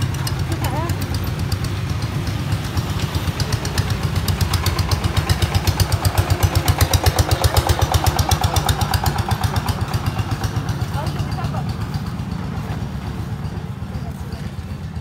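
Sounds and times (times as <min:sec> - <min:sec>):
diesel engine thudding: 0:00.0 - 0:15.0.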